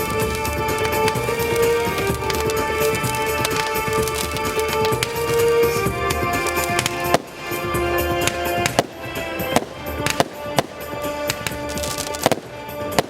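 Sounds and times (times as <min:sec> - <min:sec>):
fireworks bangs: 0:00.0 - 0:13.0
loud music: 0:00.0 - 0:13.0.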